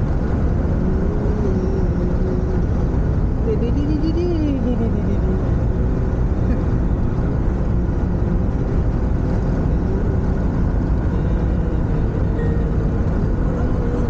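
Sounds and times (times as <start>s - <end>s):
van engine and road noise: 0.0s - 14.0s.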